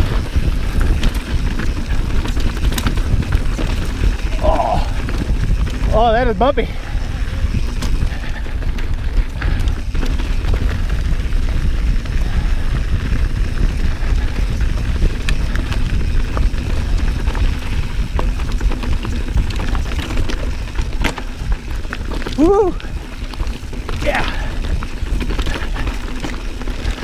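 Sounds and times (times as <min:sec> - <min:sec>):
bike and stones rattling: 0:00.0 - 0:27.0
mountain bike rumbling on rocky trail: 0:00.0 - 0:27.0.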